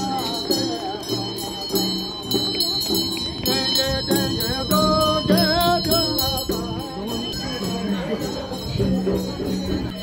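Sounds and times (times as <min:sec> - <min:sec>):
bells ringing: 0:00.0 - 0:10.0
melodic chanting: 0:00.0 - 0:10.0.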